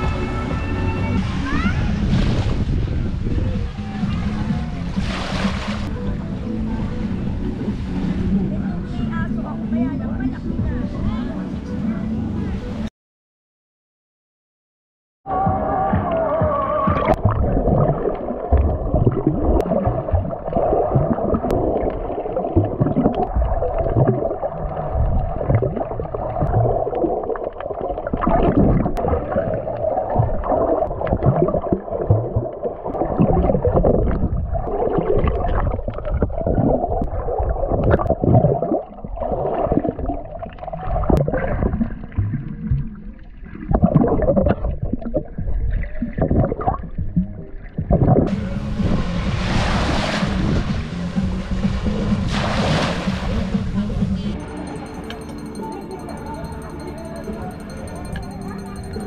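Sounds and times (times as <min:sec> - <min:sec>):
muffled water sloshing and gurgling: 0:00.0 - 0:11.1, 0:15.7 - 0:59.0.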